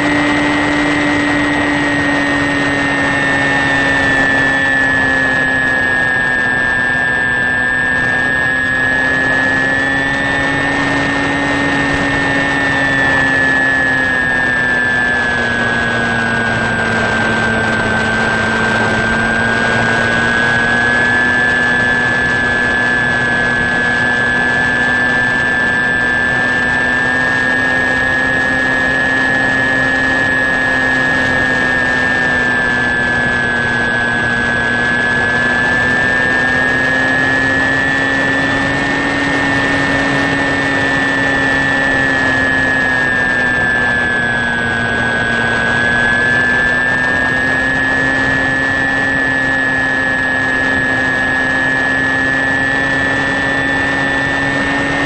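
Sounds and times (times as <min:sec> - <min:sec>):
electric motor and propeller whine: 0:00.0 - 0:55.0.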